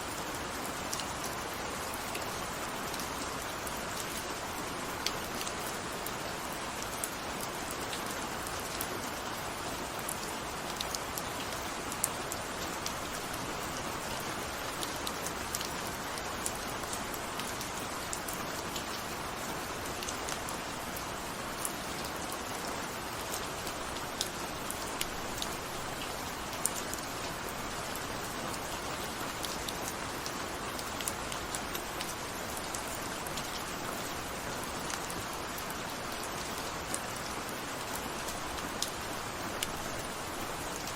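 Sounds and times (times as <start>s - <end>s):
rain drops ticking on a surface: 0.0s - 40.9s.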